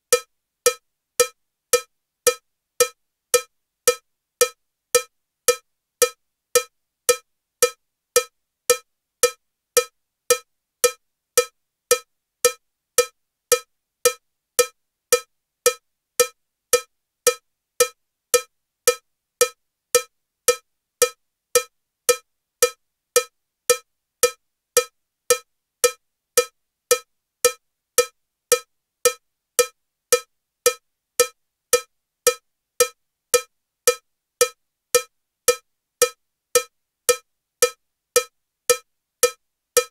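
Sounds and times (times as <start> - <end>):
metronome cowbell clicks: 0.1 - 39.9.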